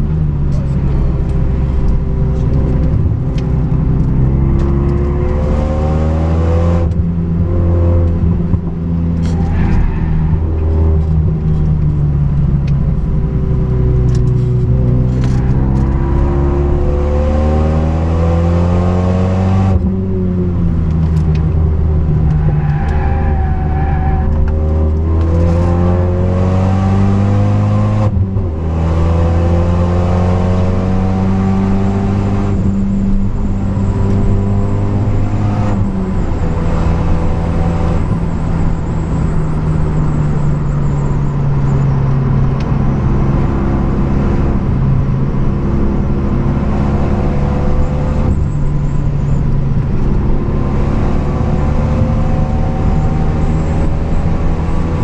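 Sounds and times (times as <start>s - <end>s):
car engine accelerating hard: 0.0s - 55.0s
road and wind noise: 0.0s - 55.0s.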